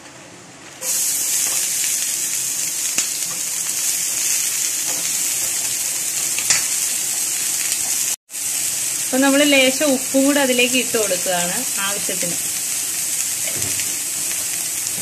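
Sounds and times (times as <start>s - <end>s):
vegetables sizzling in hot oil: 0.8s - 15.0s.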